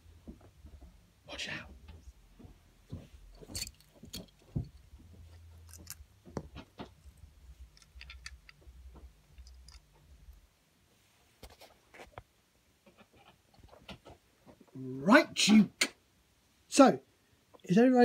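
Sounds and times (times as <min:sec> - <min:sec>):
faint low hum: 0:00.0 - 0:15.2.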